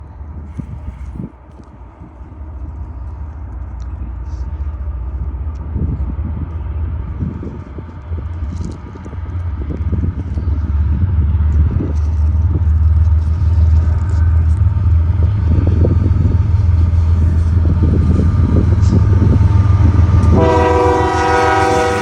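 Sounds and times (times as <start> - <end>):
freight train rumble: 0.0 - 22.0.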